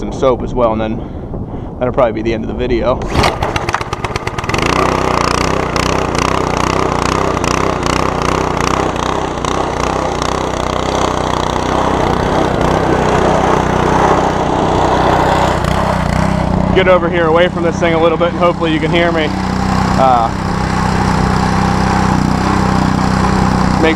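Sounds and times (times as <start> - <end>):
pressure washer engine running: 3.0 - 23.9.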